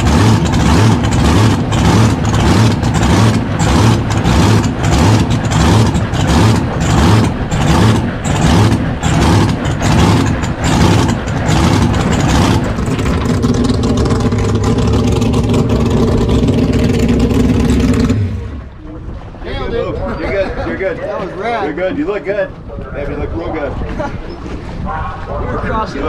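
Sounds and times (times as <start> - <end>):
boat engine idling: 0.0 - 21.6.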